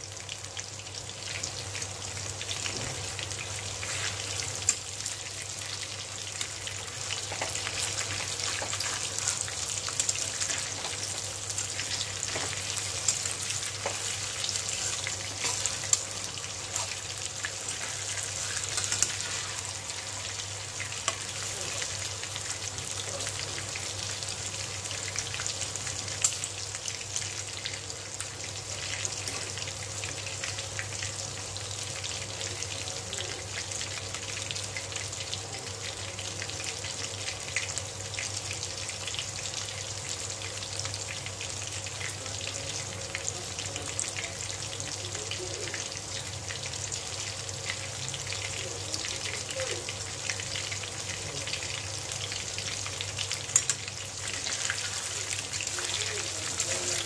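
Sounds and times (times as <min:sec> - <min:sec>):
food deep-frying in hot oil: 0:00.0 - 0:57.0.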